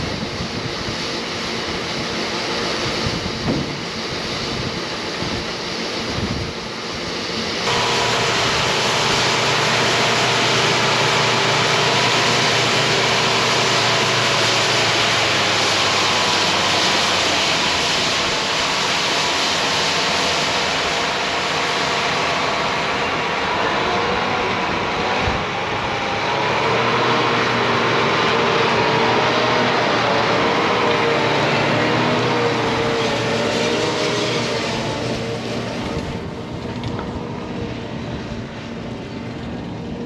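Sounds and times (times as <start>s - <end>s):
diesel machinery drone: 0.0s - 40.0s.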